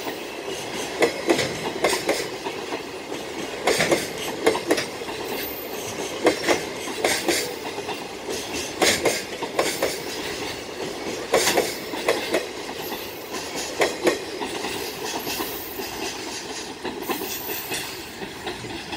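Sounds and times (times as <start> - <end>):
train rumble: 0.0 - 18.9
train wheels clattering over rail joints: 0.0 - 18.9.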